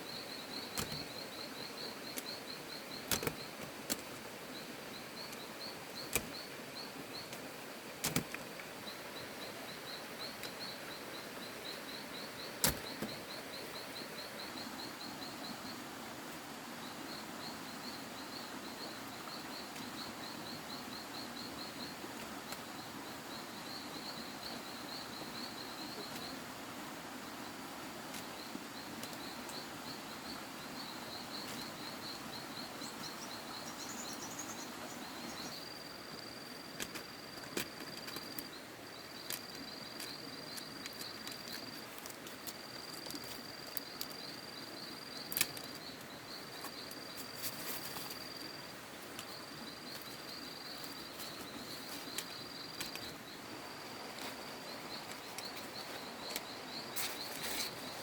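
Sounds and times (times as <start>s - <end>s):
insects trilling and buzzing: 0.0s - 58.0s
steady outdoor hiss: 0.0s - 58.0s.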